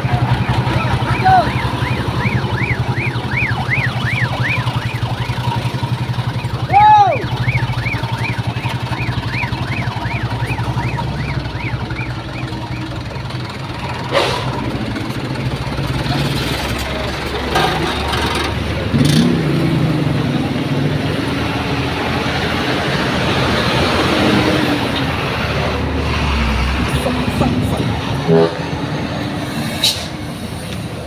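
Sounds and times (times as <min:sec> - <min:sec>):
traffic engines humming: 0:00.0 - 0:31.0.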